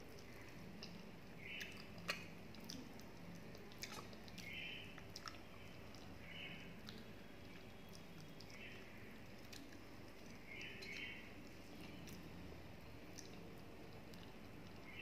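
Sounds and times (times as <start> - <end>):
person chewing crisp fried food: 0.0 - 14.9.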